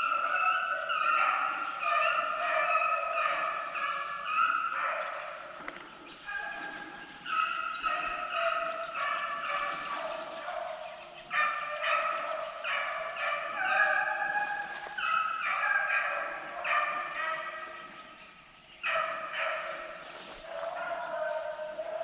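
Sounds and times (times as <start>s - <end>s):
hounds howling and bawling: 0.0s - 5.6s, 6.2s - 17.9s, 18.8s - 22.0s.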